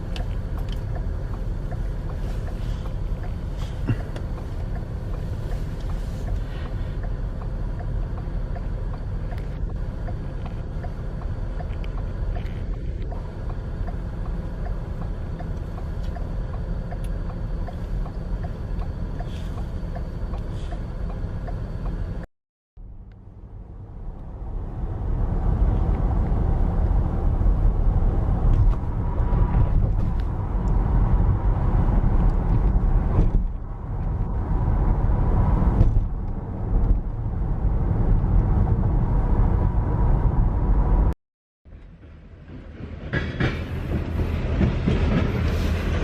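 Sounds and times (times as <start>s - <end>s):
train rumbling: 0.0s - 22.2s, 23.4s - 41.1s, 41.7s - 46.0s.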